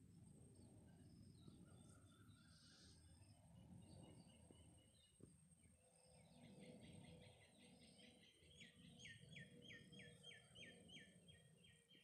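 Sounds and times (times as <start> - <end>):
faint bird song: 0.0 - 12.0.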